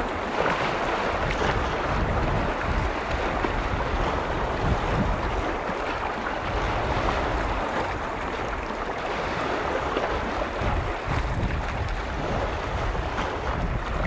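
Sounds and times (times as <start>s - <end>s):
lake waves washing in: 0.0s - 14.0s
wind rumbling on microphone: 0.0s - 14.0s.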